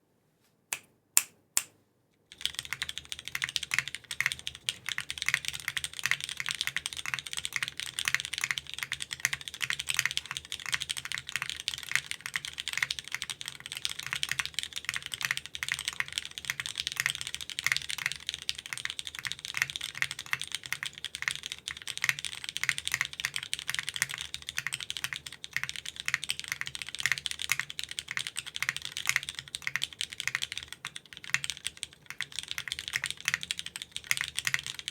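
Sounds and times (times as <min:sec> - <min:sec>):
mechanical keyboard typing: 0:02.3 - 0:34.9.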